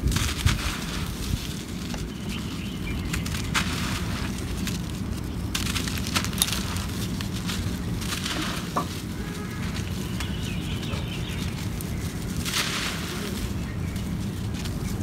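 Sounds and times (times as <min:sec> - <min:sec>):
dry soil crumbling by hand: 0:00.0 - 0:15.0
steady low rumble: 0:00.0 - 0:15.0.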